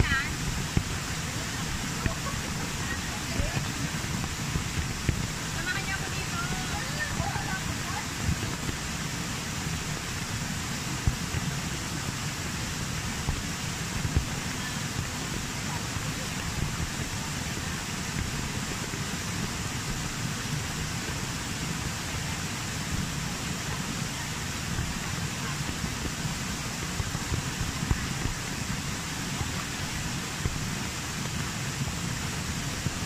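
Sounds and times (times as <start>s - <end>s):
rain falling: 0.0s - 33.0s
waterfall rushing: 0.0s - 33.0s.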